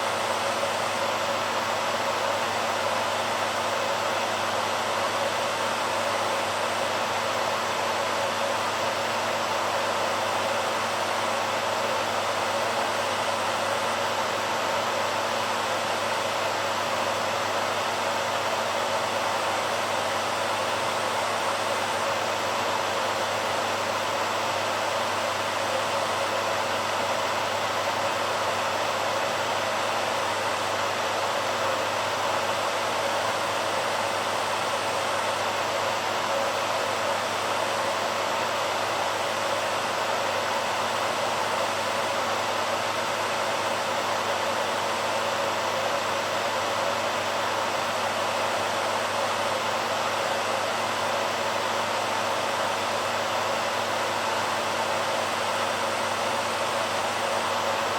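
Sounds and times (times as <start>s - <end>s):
hairdryer running: 0.0s - 57.9s.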